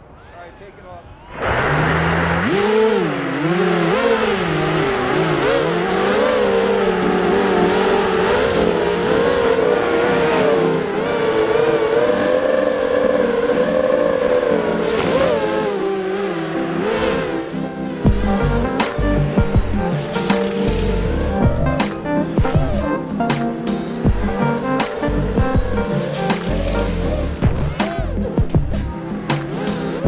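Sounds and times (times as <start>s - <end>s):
drone motors whining: 0.0s - 30.0s.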